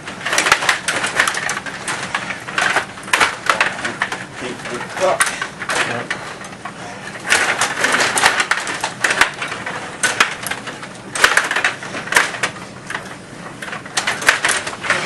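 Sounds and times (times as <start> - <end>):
table hockey rods and figures clacking: 0.0 - 15.0.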